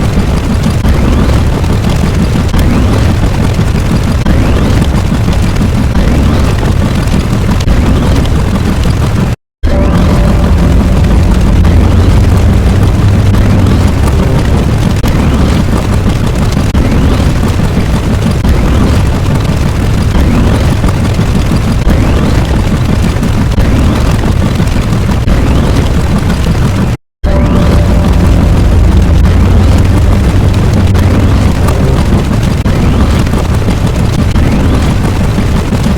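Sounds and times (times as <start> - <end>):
booming and crackling noise: 0.0 - 35.9.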